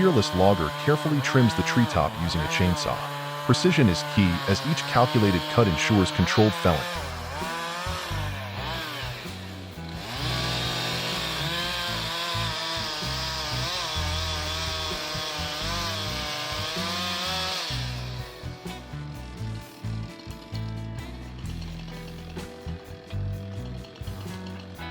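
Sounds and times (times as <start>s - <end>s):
chainsaw cutting wood: 0.0s - 24.9s.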